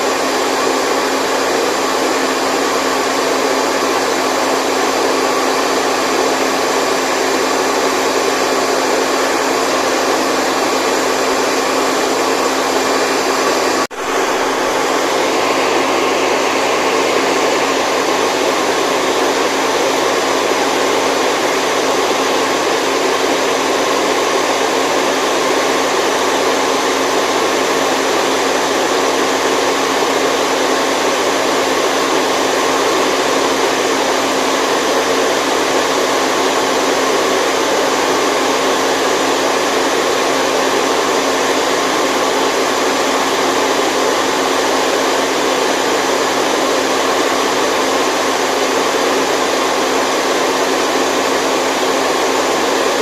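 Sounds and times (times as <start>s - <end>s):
white noise rush: 0.0s - 53.0s.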